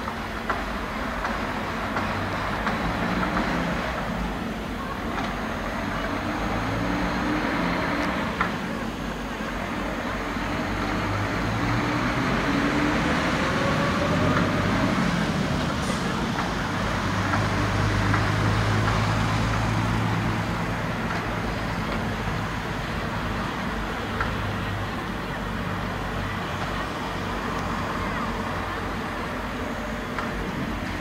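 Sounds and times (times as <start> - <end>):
traffic background noise: 0.0 - 31.0.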